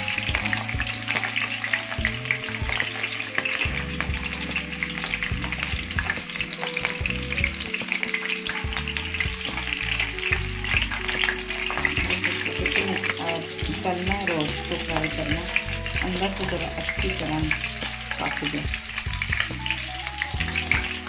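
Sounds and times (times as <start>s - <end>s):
chicken wings sizzling in oil: 0.0s - 21.0s
oil popping: 0.0s - 21.0s.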